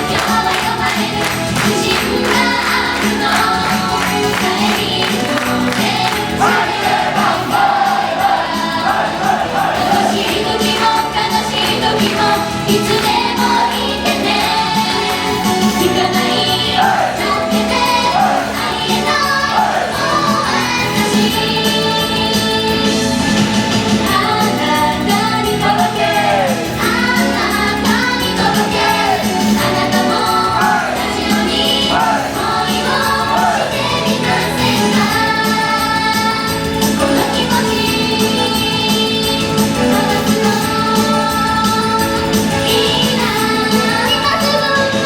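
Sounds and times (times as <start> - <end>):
instrumental backing: 0.0 - 45.0
several voices singing: 0.0 - 45.0.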